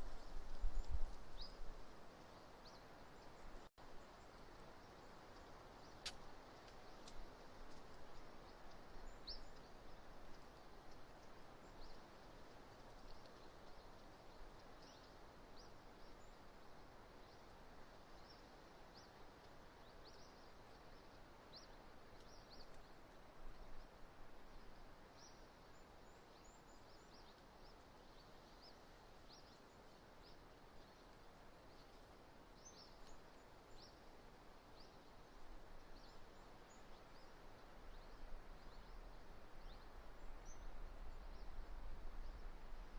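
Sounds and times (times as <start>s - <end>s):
small birds chirping: 2.3s - 42.5s.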